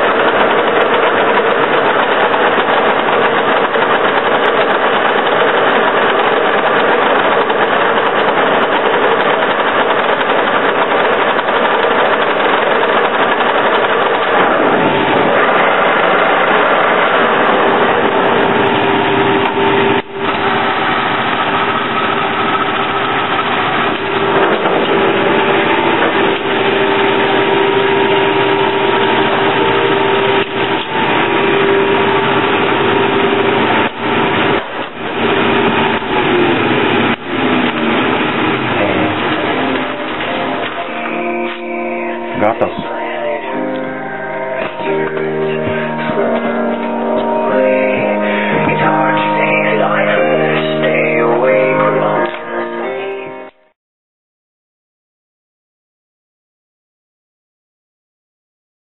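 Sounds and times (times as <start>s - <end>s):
lathe clattering and humming: 0.0s - 53.3s
multi-tone whine: 0.0s - 53.7s.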